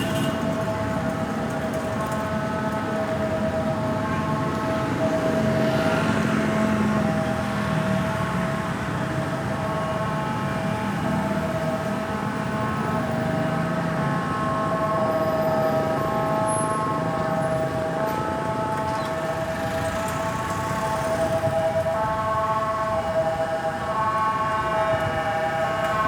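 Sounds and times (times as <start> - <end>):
ambulance siren: 0.0 - 26.0
road traffic noise: 0.0 - 26.0.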